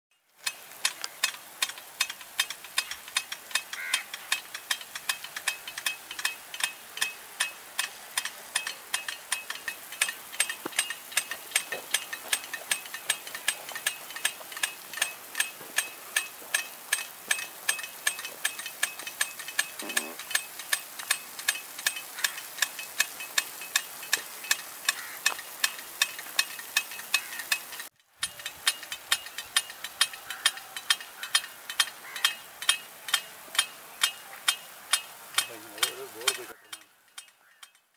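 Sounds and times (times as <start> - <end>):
sprinkler arm clicking: 0.1 - 37.9
hiss of sprinkler spray: 0.2 - 37.6.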